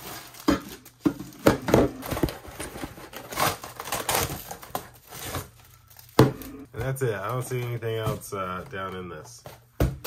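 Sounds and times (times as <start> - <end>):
plastic wrapping crinkling: 0.0 - 9.4.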